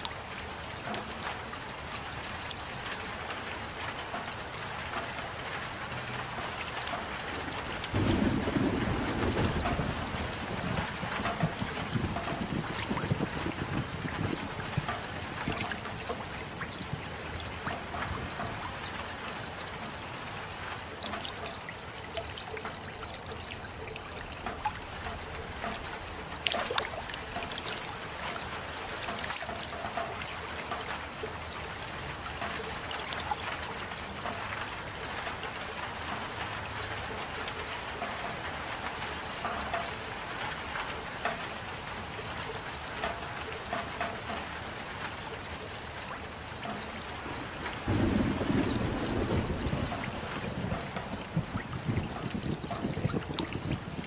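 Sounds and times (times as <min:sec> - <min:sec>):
rainfall: 0:00.0 - 0:54.0
water drips ticking: 0:00.0 - 0:54.0.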